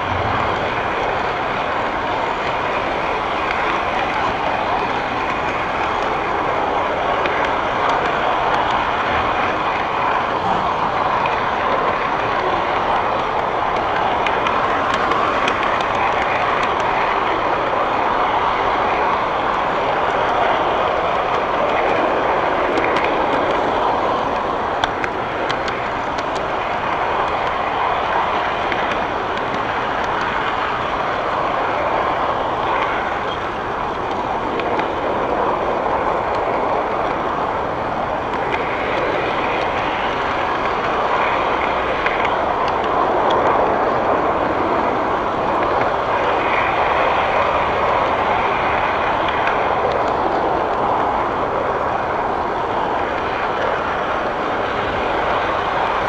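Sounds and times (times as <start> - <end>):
model train rolling on track: 0.0 - 56.0
faint clicks: 3.4 - 56.0.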